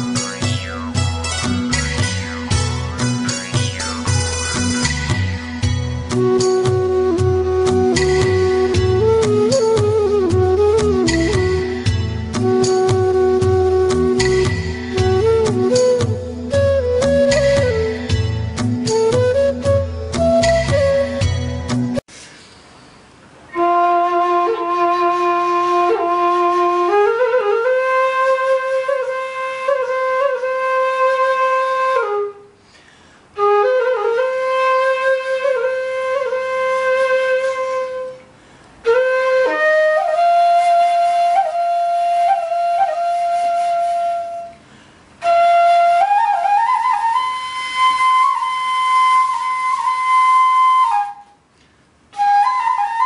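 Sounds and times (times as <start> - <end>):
solo flute music: 0.0 - 22.0, 23.5 - 32.6, 33.4 - 44.6, 45.2 - 51.5, 52.1 - 53.0.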